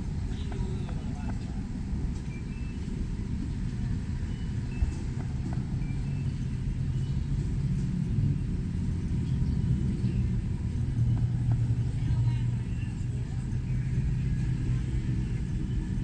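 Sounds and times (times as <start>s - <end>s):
road traffic rumbling: 0.0s - 16.0s
vehicle engine hum: 0.0s - 16.0s.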